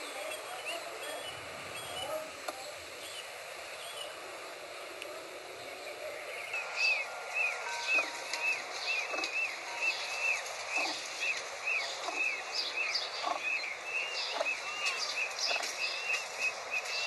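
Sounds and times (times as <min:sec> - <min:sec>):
peachicks peeping: 0:00.0 - 0:04.6, 0:05.5 - 0:17.0.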